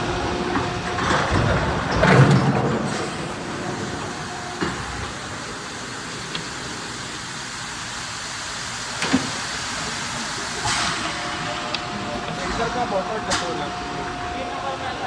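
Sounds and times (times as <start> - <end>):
molding machine running: 0.0 - 15.0.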